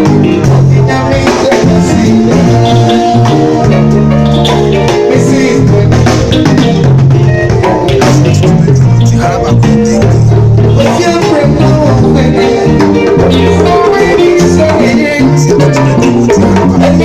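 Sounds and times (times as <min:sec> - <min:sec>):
drums: 0:00.0 - 0:17.0
held low bass notes: 0:00.0 - 0:17.0.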